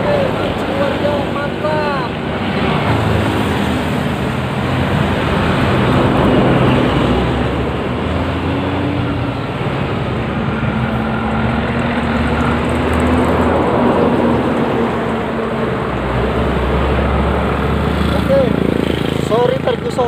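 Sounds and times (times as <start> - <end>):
highway traffic passing: 0.0 - 20.0.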